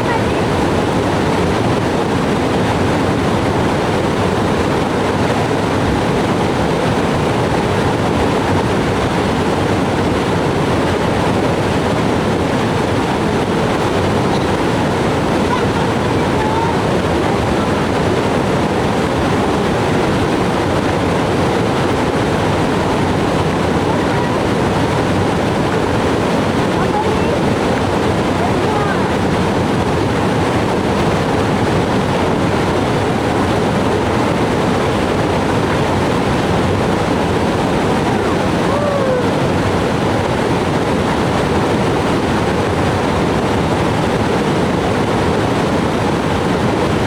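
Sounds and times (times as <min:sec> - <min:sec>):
water rushing: 0:00.0 - 0:47.0.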